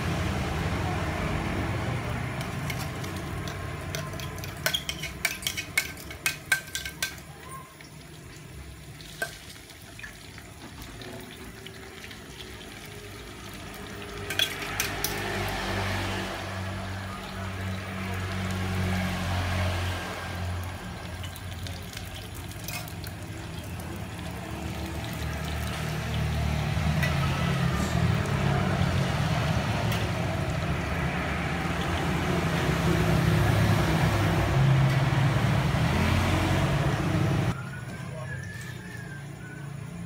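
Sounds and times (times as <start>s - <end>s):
food frying in oil: 0.0s - 36.8s.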